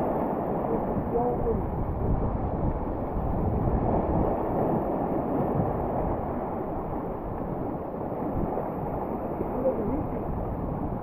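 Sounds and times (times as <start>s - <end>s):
small waves washing onto shore: 0.0s - 11.0s
wind rumble on microphone: 0.0s - 11.0s.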